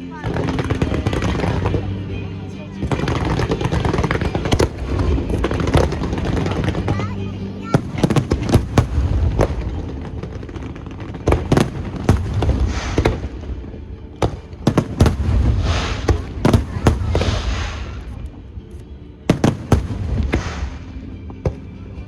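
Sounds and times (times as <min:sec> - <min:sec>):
fireworks crackling: 0:00.0 - 0:21.8
fireworks bangs: 0:02.8 - 0:18.4, 0:19.3 - 0:21.6.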